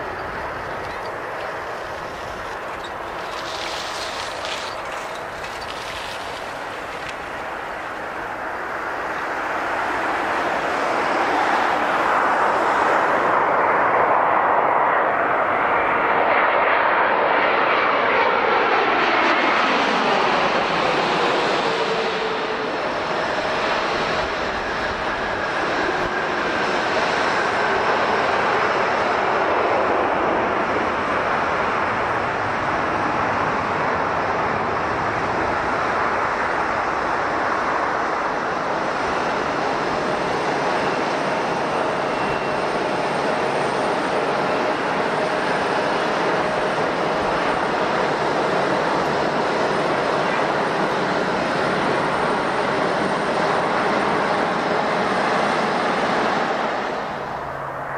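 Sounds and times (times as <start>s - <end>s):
jet engine idling: 0.0s - 14.1s, 19.7s - 57.9s
jet airliner passing overhead: 0.0s - 57.9s.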